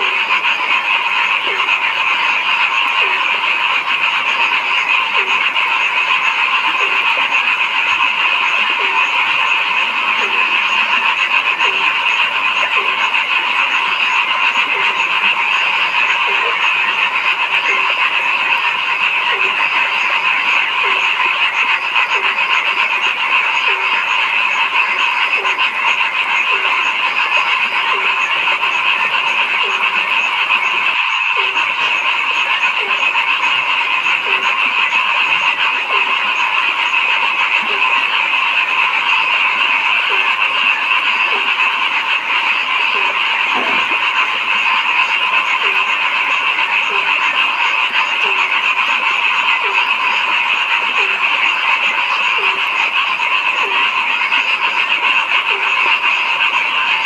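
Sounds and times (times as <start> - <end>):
chorus of frogs calling: 0.0 - 57.0
low frog croak: 0.0 - 57.0.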